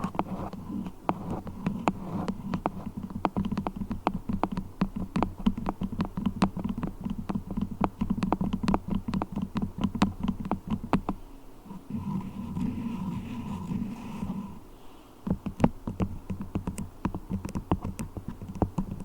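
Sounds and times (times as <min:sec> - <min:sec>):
low steady hum: 0:00.0 - 0:19.0
sticky clicking on beeswax: 0:00.0 - 0:19.0.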